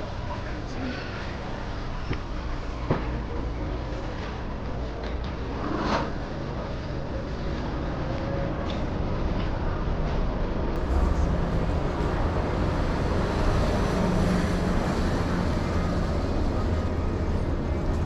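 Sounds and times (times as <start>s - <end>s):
low rumbling noise: 0.0s - 18.0s.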